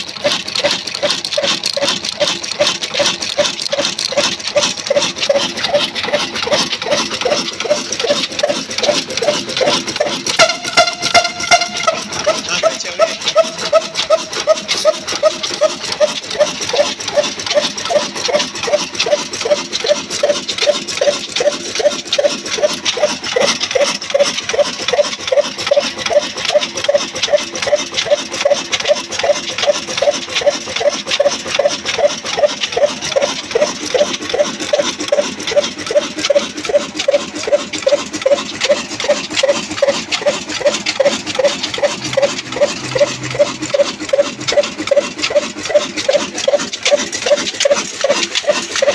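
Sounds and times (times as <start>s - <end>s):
diesel engine clacking: 0.0s - 48.9s.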